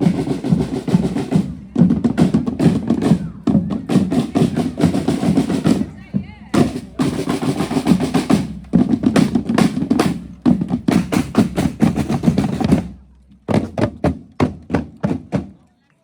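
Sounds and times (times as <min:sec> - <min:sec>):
marching band drumming: 0:00.0 - 0:15.6.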